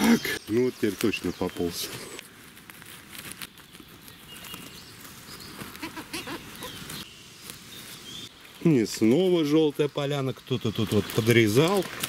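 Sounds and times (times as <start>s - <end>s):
rustling of damp leaves and twigs: 0.0s - 12.0s.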